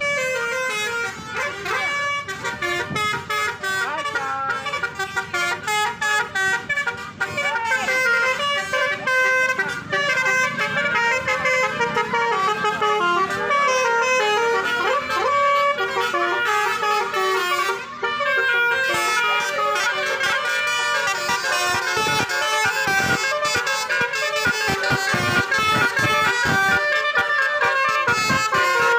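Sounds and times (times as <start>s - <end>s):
musical vehicle horn playing tune: 0.0s - 28.9s.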